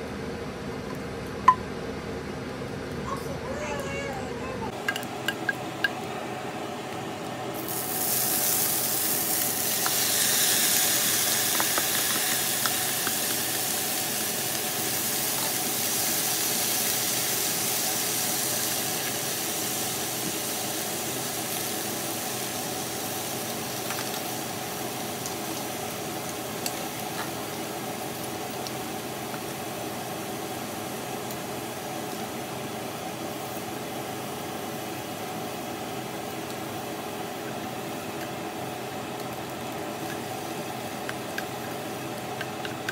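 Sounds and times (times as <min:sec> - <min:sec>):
vegetables sizzling in hot oil: 0:07.6 - 0:42.9.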